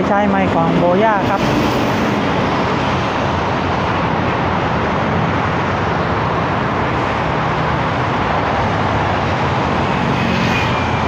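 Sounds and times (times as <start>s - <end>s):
cars and motorbikes passing: 0.0s - 11.0s.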